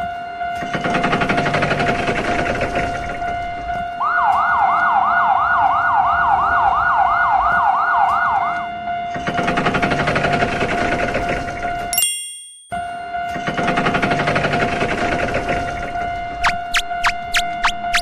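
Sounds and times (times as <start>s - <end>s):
rapid alarm pulses: 0.0s - 11.9s, 12.7s - 18.0s
yelping electronic siren: 0.0s - 11.9s, 12.9s - 18.0s.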